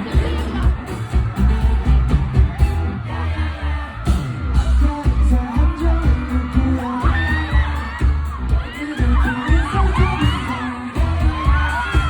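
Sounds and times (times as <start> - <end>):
person singing: 0.0 - 12.0
pop song with pulsing bass beat: 0.0 - 12.0.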